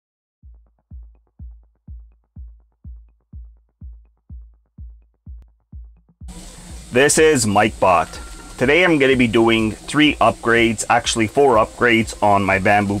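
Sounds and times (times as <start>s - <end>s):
electronic music with kick drum: 0.4s - 13.0s.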